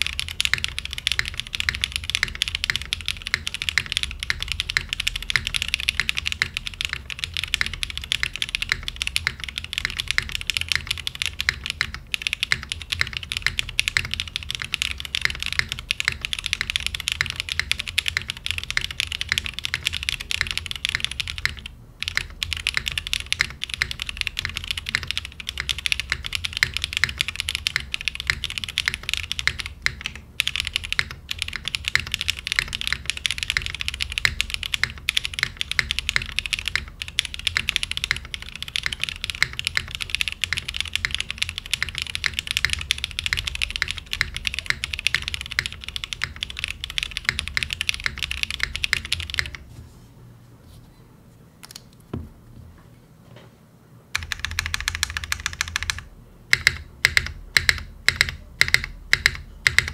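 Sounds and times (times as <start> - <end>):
mechanical keyboard typing: 0.0 - 49.7, 51.6 - 52.2, 54.1 - 59.9.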